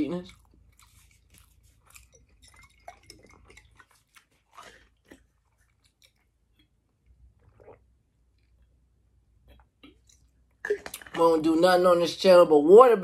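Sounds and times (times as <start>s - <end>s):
chewing and mouth sounds: 0.0s - 8.8s, 9.4s - 11.2s.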